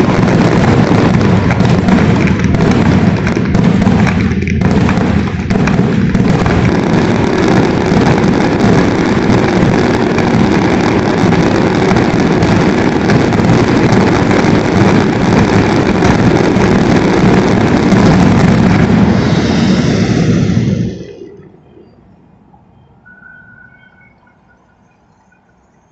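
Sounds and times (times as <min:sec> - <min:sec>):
fireworks bursting and crackling: 0:00.0 - 0:21.5.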